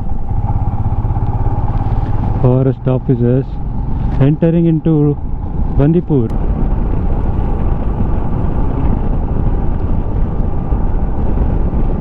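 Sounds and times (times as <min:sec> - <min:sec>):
motorcycle running: 0:00.0 - 0:12.0
wind buffeting microphone: 0:00.0 - 0:12.0.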